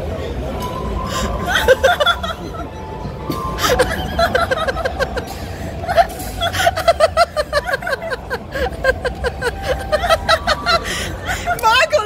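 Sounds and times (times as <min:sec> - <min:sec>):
faint background music: 0:00.0 - 0:12.0
people laughing: 0:01.0 - 0:12.0.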